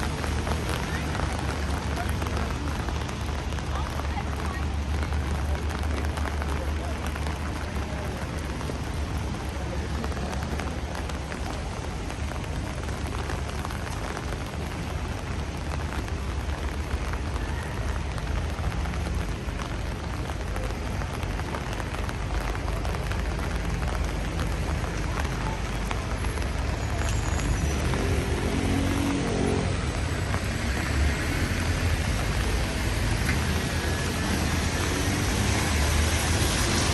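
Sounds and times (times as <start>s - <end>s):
rain falling on street: 0.0s - 36.9s.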